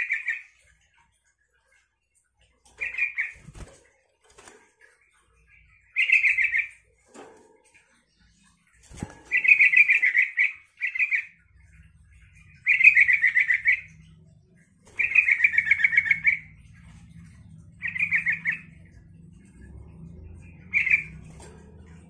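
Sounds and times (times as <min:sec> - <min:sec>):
bird chattering song: 0:00.0 - 0:22.0
faint low hum: 0:00.0 - 0:22.0.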